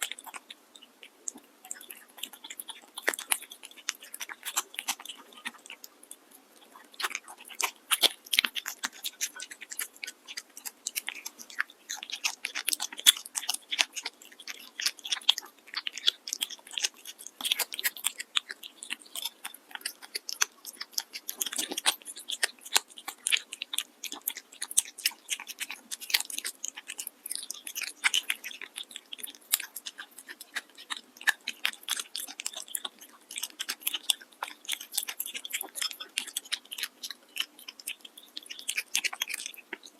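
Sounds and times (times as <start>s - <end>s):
cat crunching food: 0.0s - 39.9s.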